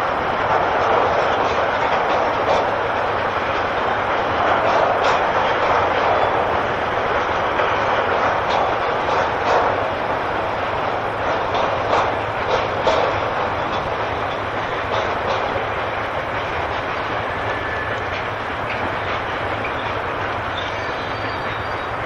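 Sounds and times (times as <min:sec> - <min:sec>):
train wheels rumbling on rail: 0:00.0 - 0:22.0
wheels clicking over rail joints: 0:00.0 - 0:22.0.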